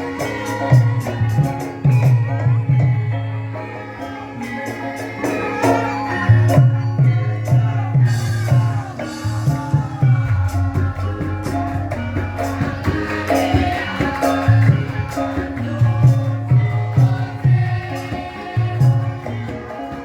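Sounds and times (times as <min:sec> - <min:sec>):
pitched metal notes: 0:00.0 - 0:20.0
rattling percussion: 0:00.0 - 0:20.0.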